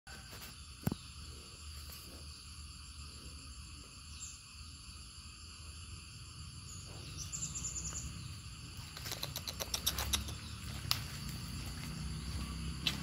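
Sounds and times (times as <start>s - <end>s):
high-pitched insect drone: 0.1s - 13.0s.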